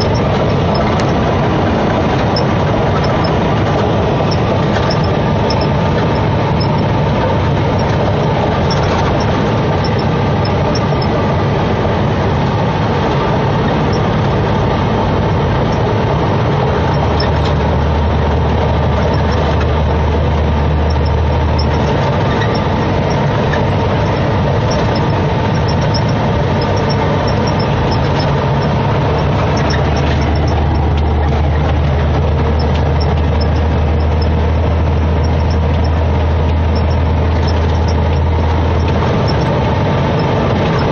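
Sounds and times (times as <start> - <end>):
road and cab noise: 0.0 - 40.9
truck diesel engine: 0.0 - 40.9.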